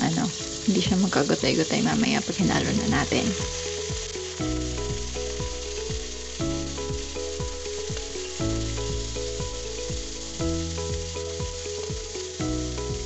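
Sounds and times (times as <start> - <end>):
background music with beat: 0.0 - 1.6, 2.3 - 13.0
chicken sizzling in oil: 0.0 - 13.0.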